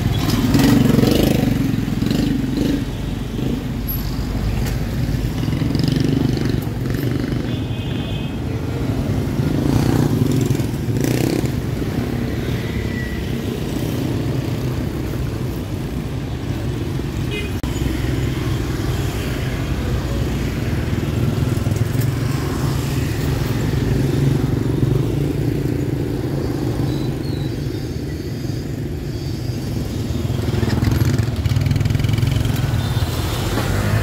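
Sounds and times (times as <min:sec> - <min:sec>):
motorbikes passing close by: 0:00.0 - 0:07.7, 0:08.6 - 0:28.0, 0:28.6 - 0:34.0.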